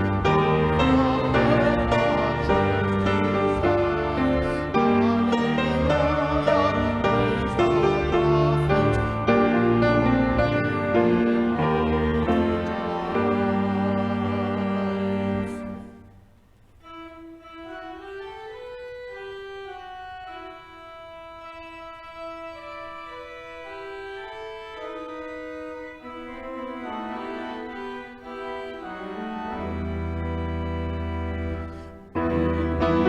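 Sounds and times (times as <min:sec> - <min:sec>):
church organ playing: 0:00.0 - 0:33.0.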